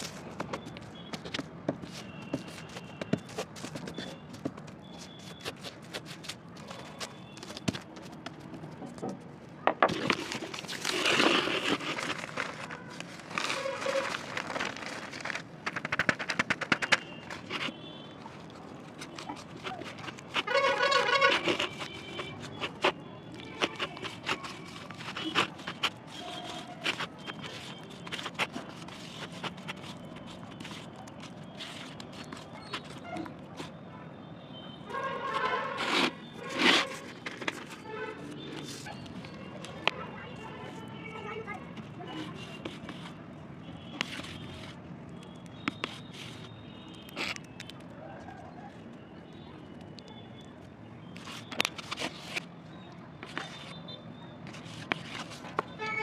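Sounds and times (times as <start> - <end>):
paper rustling: 0.0 - 33.7, 35.0 - 40.0, 42.1 - 43.2, 43.9 - 44.8, 45.6 - 47.9, 51.1 - 52.5, 53.2 - 53.8, 54.4 - 55.7.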